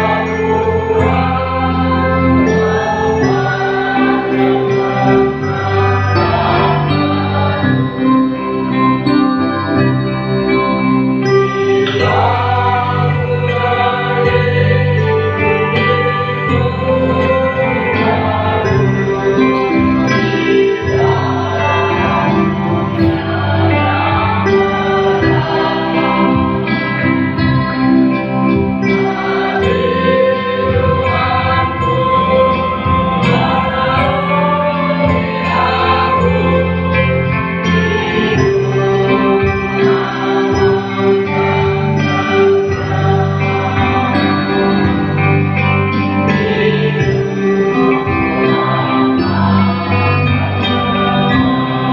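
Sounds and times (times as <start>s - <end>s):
electric bass guitar: 0.0s - 51.9s
mixed choir singing: 0.0s - 51.9s.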